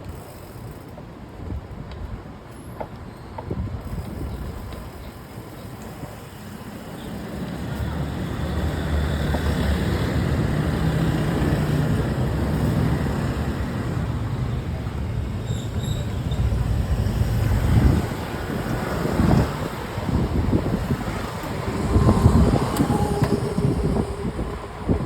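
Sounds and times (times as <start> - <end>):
rushing wind: 1.1 - 25.0
bicycle rolling noise: 3.5 - 25.0.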